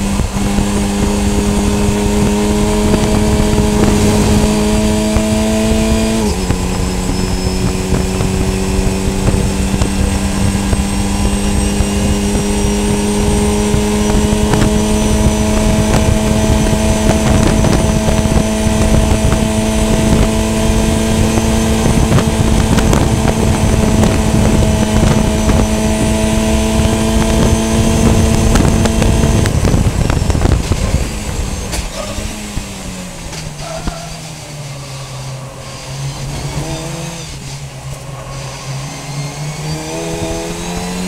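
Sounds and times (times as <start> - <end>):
race car engine: 0.0 - 41.0
road and wind rumble: 0.0 - 41.0.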